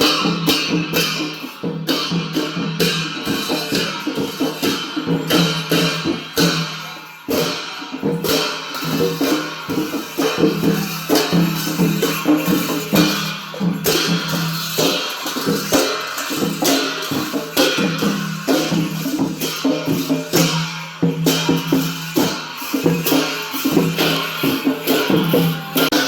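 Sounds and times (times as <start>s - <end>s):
drums and cymbals rhythm: 0.0s - 26.0s.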